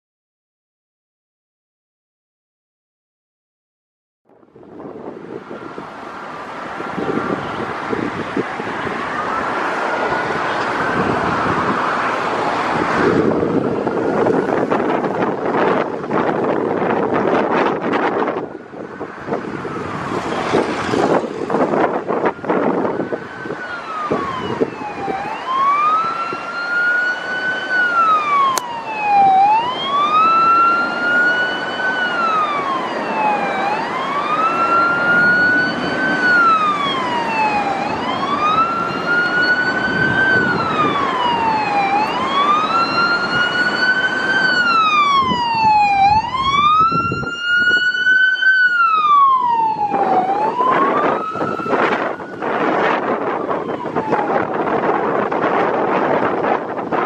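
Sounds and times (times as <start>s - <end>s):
wind-like rushing noise: 4.3s - 57.0s
vehicle siren wailing: 4.5s - 57.0s.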